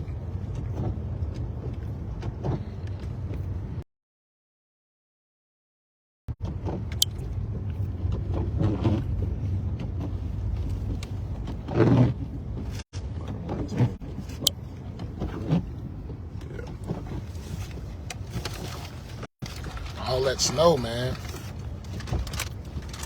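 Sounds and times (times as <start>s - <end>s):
car engine and tyres rumbling: 0.0s - 3.8s, 6.3s - 23.0s.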